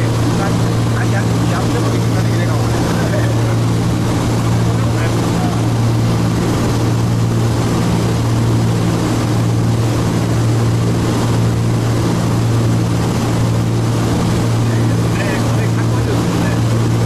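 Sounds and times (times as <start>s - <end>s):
aircraft engine cabin drone: 0.0s - 17.0s.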